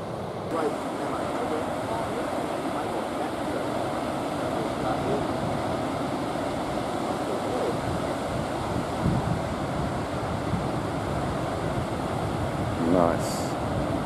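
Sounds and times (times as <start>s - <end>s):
ocean surf breaking: 0.0s - 14.0s
wind on microphone: 0.0s - 14.0s.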